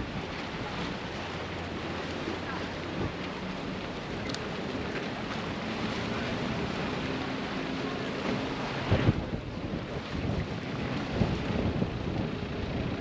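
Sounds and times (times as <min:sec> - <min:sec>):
low engine hum: 0:00.0 - 0:13.0
sea noise: 0:00.0 - 0:13.0
wind: 0:00.0 - 0:13.0.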